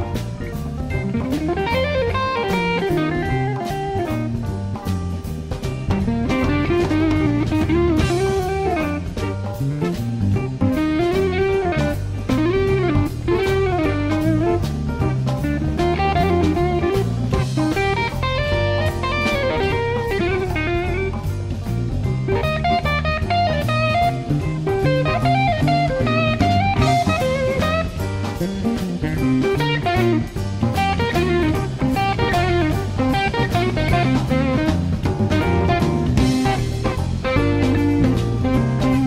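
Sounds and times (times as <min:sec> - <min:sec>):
electric guitar solo: 0:00.0 - 0:04.8, 0:05.4 - 0:39.0
bass: 0:00.0 - 0:39.0
drum kit: 0:00.0 - 0:39.0.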